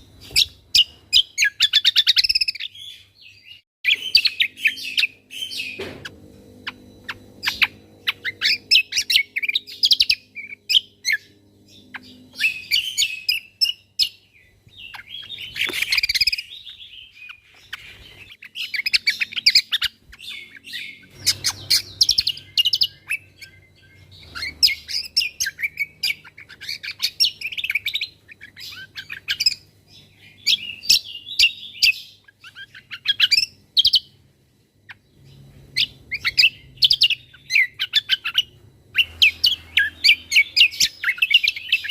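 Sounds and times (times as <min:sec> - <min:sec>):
songbird chirping rapidly: 0:00.0 - 0:41.9.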